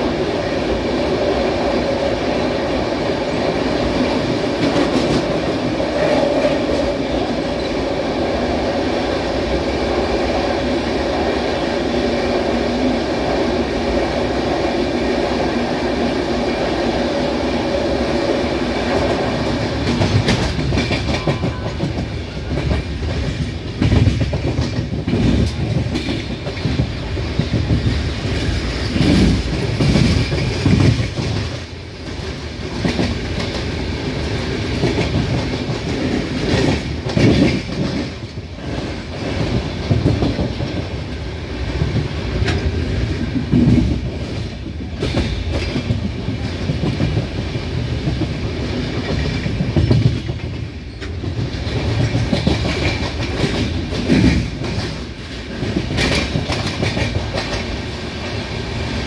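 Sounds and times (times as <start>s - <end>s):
passing freight train wagons: 0.0s - 59.0s
train wheels rumbling on rails: 0.0s - 59.0s.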